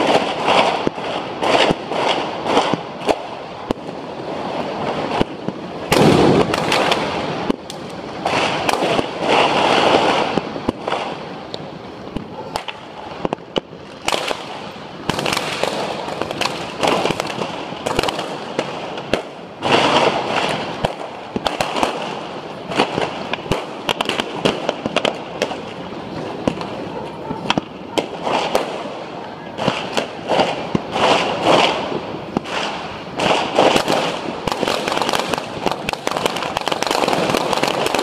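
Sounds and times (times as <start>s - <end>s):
dense firecracker crackling: 0.0s - 38.0s
fireworks bangs and cracks: 0.0s - 38.0s.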